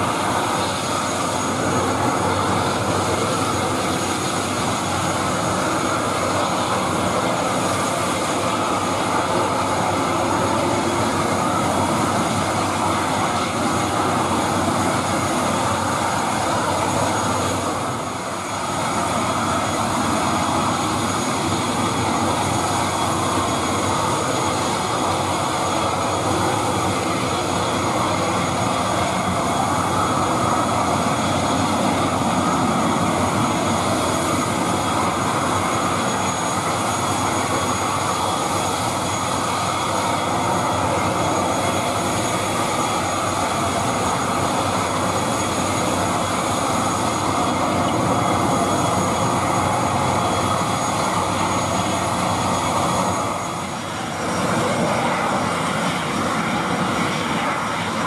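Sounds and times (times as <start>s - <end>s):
turboprop engine whining: 0.0s - 58.0s.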